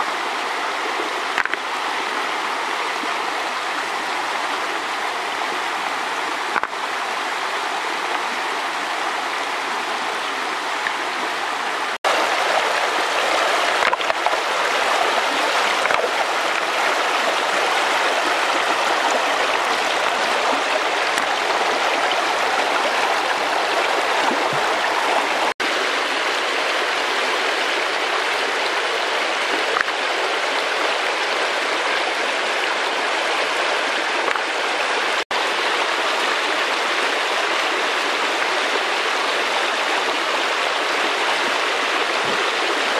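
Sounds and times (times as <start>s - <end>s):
river water rushing over stones: 0.0s - 42.9s.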